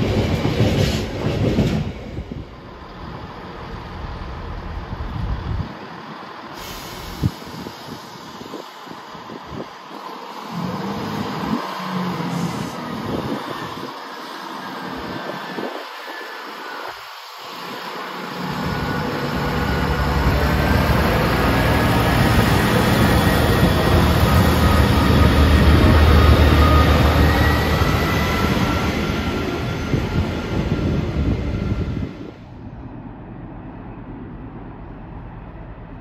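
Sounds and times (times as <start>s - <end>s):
diesel train rumbling past: 0.0s - 36.0s.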